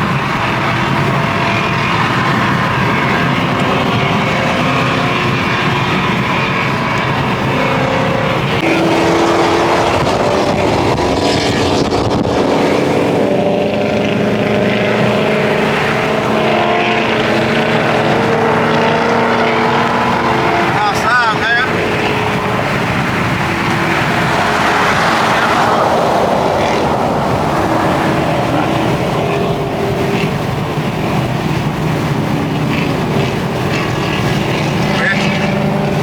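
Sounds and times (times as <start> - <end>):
car engines running: 0.0 - 36.0.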